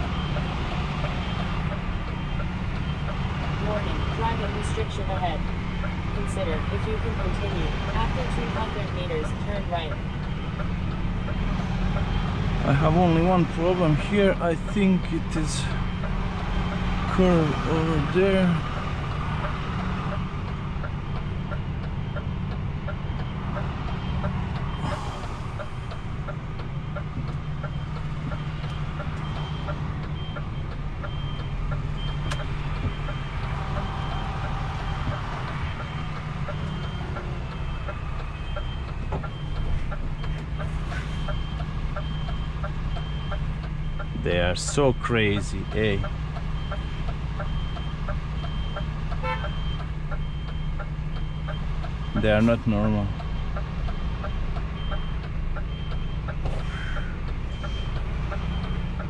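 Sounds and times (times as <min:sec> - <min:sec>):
truck engine humming: 0:00.0 - 0:59.0
truck reversing alarm beeping: 0:00.0 - 0:59.0
faint regular ticking: 0:00.3 - 0:56.4.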